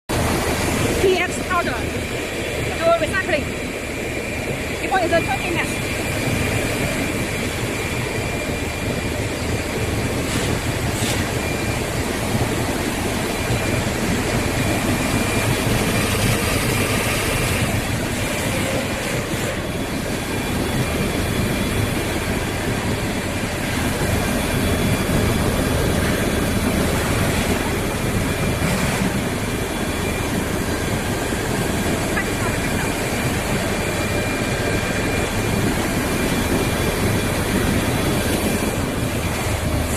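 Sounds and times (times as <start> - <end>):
high steady whine: 0.1 - 39.9
pulverizer rushing and rumbling: 0.1 - 39.9.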